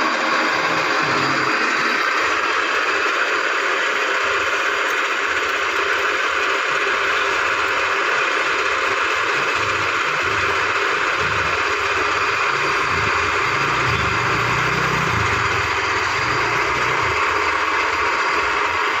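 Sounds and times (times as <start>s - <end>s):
metal lathe whirring: 0.0s - 19.0s.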